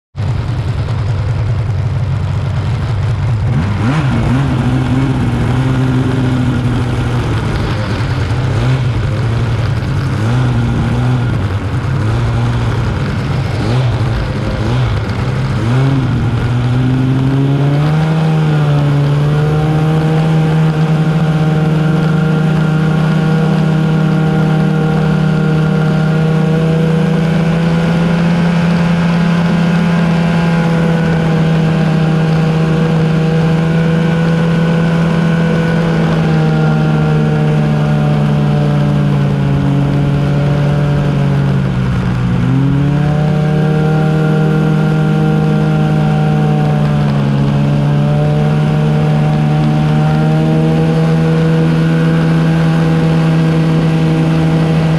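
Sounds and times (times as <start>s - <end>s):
snowmobile engine: 0.2s - 54.9s.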